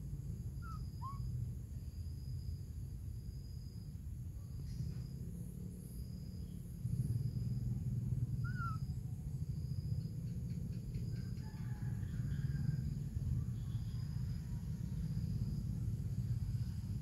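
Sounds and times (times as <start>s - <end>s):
low rumble on microphone: 0.0s - 17.0s.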